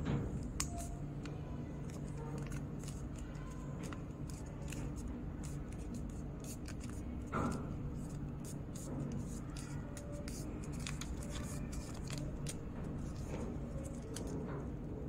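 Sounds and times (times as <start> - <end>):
paper crinkling and rustling: 1.6 - 14.8.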